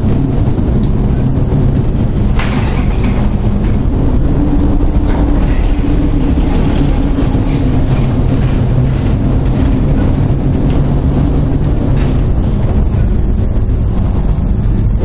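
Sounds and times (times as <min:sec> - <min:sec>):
ship machinery hum: 0:00.0 - 0:15.0
wind and breaking sea: 0:00.0 - 0:15.0.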